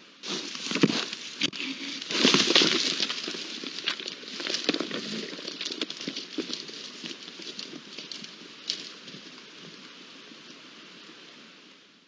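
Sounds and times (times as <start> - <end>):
animal rustling over stony ground: 0.2 - 10.6.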